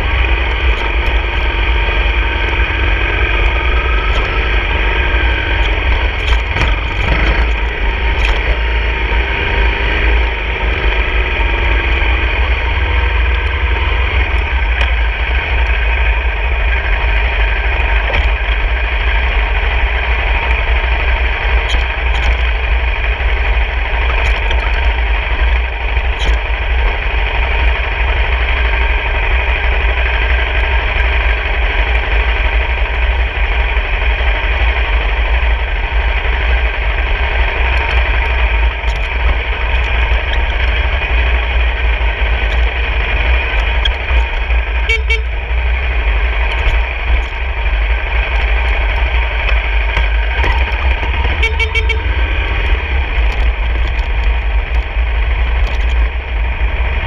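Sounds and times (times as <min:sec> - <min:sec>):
dirt bike engine running: 0:00.0 - 0:57.0
wind noise on microphone: 0:00.0 - 0:57.0.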